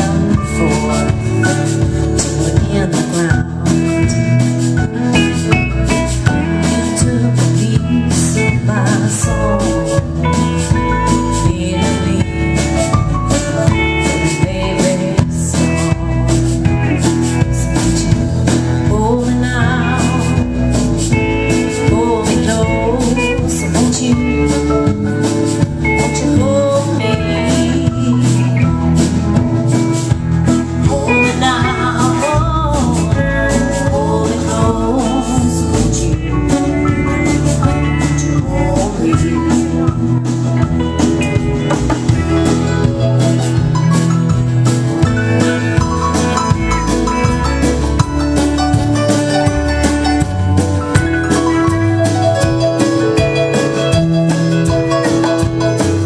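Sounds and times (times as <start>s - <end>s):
acoustic-electric guitar: 0.0s - 56.0s
bass guitar: 0.0s - 56.0s
drum kit beat: 0.0s - 56.0s
electric guitar: 0.0s - 56.0s.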